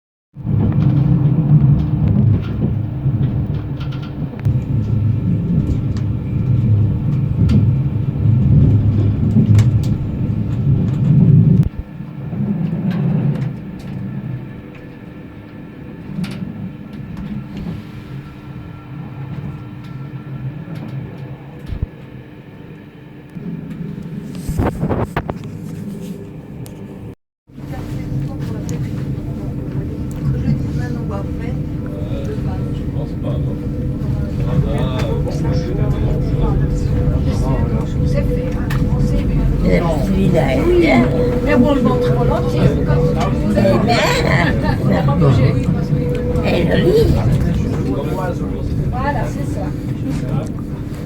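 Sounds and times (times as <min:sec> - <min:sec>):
train wheels rumbling on rails: 0:00.4 - 0:22.0, 0:23.4 - 0:51.0.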